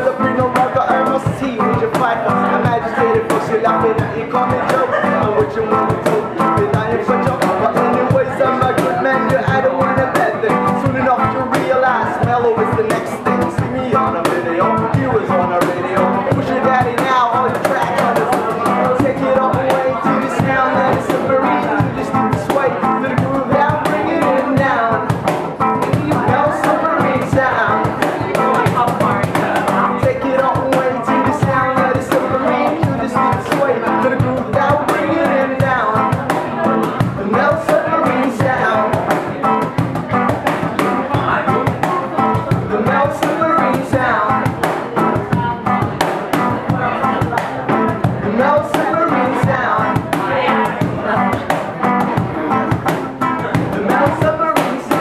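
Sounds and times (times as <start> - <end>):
electric and acoustic guitars: 0.0 - 55.0
man singing: 0.0 - 55.0.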